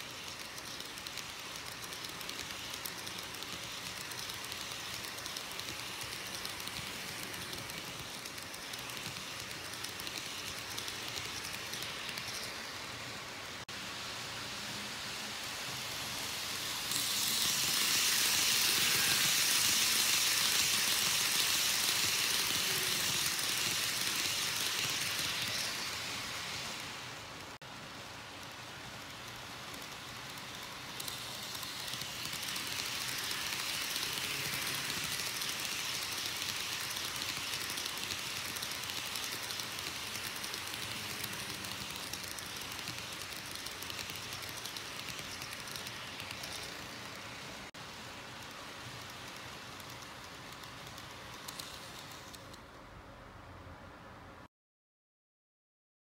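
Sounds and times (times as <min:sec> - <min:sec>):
model train wheels and motor hissing: 0:00.0 - 0:54.5.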